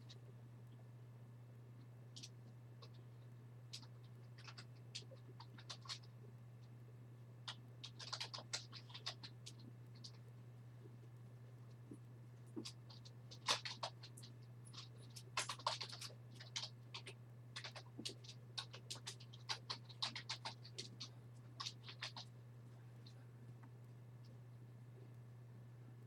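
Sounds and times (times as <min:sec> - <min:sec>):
steady low hum: 0:00.0 - 0:26.0
light clicks and scratches: 0:01.8 - 0:06.8, 0:07.4 - 0:25.2.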